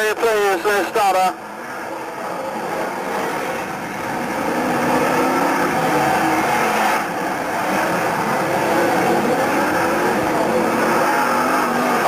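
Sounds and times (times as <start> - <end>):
stock car engines racing: 0.0 - 12.0.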